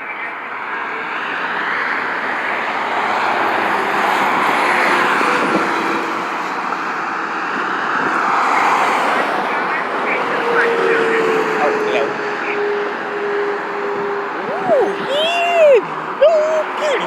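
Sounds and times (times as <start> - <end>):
road vehicles passing: 0.0 - 17.0.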